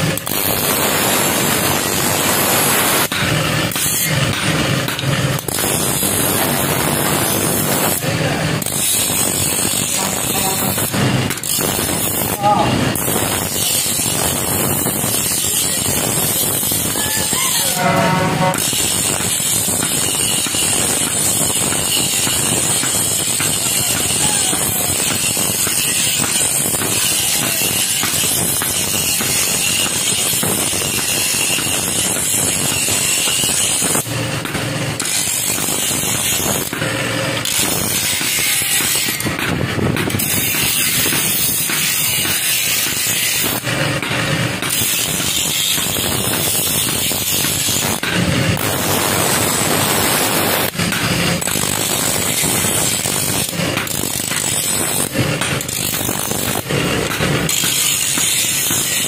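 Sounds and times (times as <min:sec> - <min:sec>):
loud workshop machinery hissing: 0:00.0 - 0:59.0.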